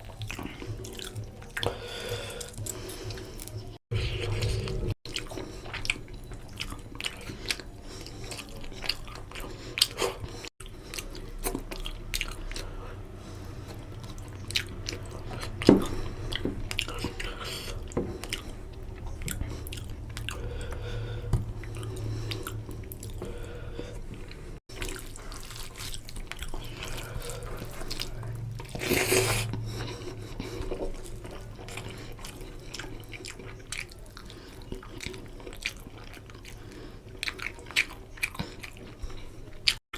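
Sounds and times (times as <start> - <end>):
person chewing food: 0.0 - 39.8.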